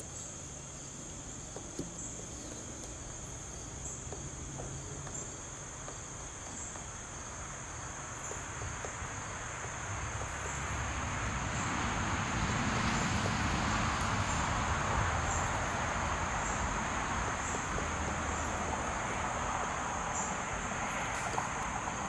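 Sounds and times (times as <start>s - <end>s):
distant traffic rumble: 0.0s - 22.0s
insects chirping: 0.0s - 22.0s.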